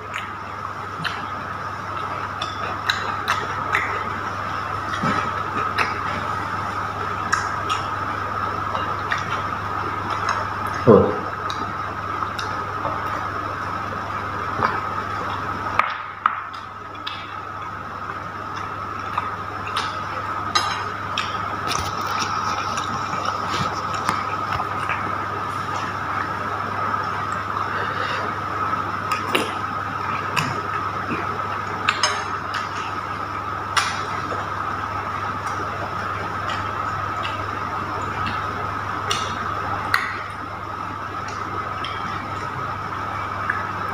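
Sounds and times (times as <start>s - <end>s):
electrical room hum: 0.0s - 43.9s.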